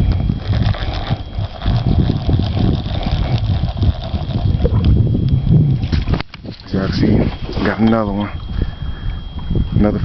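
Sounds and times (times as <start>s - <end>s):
faint steady hum: 0.0s - 10.0s
wind buffeting microphone: 0.0s - 10.0s.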